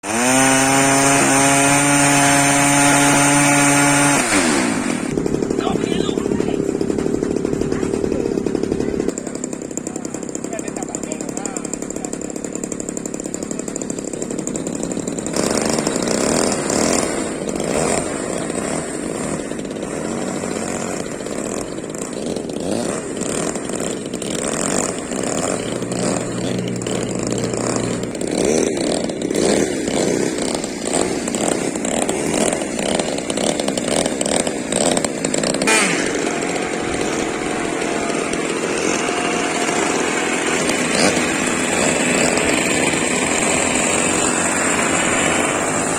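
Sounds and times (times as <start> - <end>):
model plane engine buzzing: 0.0 - 45.9.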